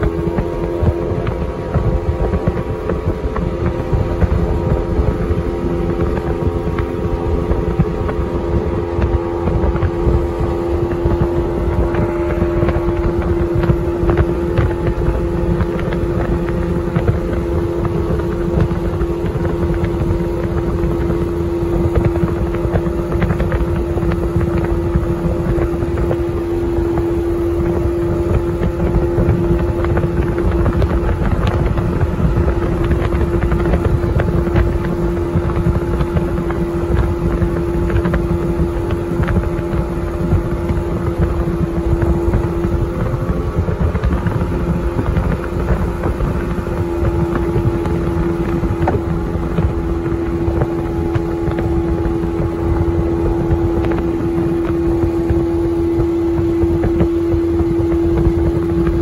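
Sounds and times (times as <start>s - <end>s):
outboard motor droning: 0.0s - 59.0s
wind buffeting microphone: 0.0s - 59.0s.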